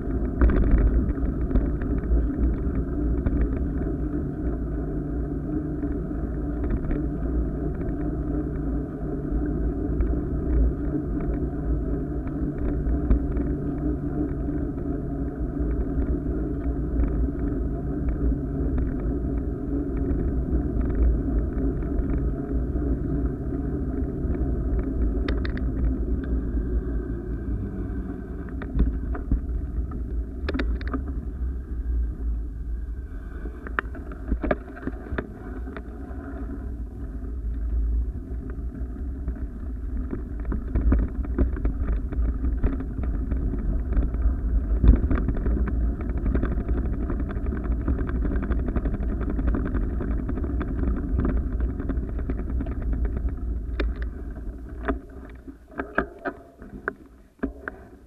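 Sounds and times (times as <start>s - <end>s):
tyre noise on pavement: 0.0s - 58.0s
wind on microphone: 0.0s - 58.0s.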